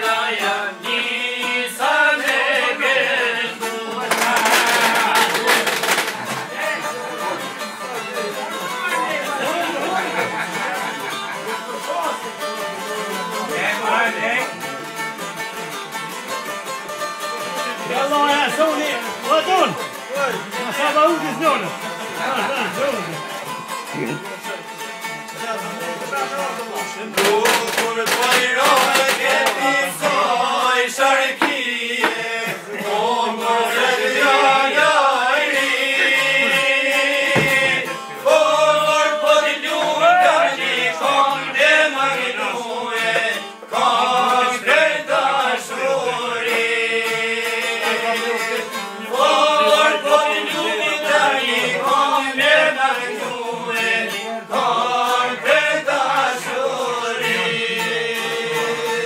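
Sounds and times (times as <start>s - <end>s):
men singing folk song: 0.0s - 15.5s, 16.2s - 59.0s
plucked string instrument: 0.0s - 59.0s.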